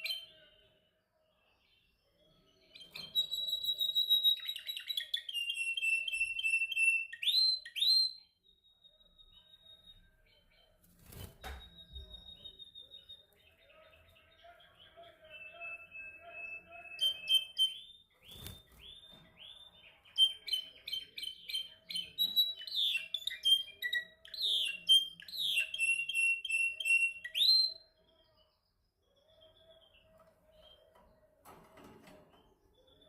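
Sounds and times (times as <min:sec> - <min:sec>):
canary singing trills: 0:01.7 - 0:31.4.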